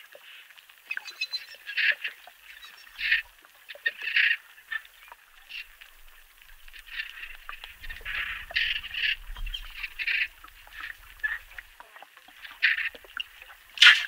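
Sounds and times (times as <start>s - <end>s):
faint clicks: 0.0s - 14.0s
dolphin pulsed calls: 0.9s - 11.7s, 12.4s - 14.0s.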